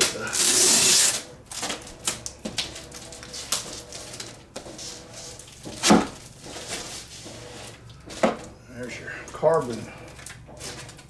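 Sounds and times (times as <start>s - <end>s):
cardboard and foam rustling: 0.0s - 11.0s.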